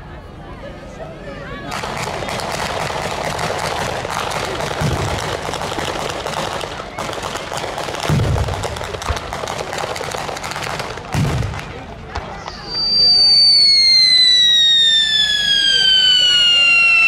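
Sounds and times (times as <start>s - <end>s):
firecrackers crackling: 1.7s - 17.0s
firework booms: 1.7s - 17.0s.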